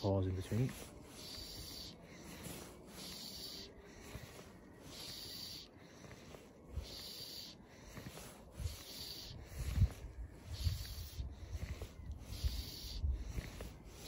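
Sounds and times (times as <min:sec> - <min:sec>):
fly line rasping hiss: 0:00.0 - 0:14.0.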